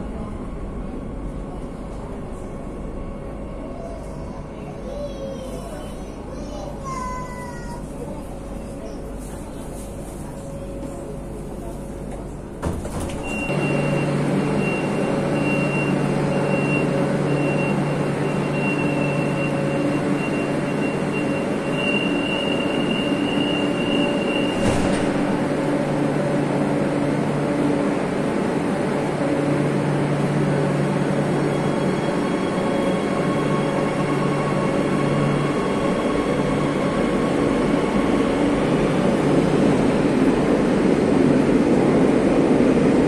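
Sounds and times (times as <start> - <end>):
train mechanical hum: 0.0 - 43.0.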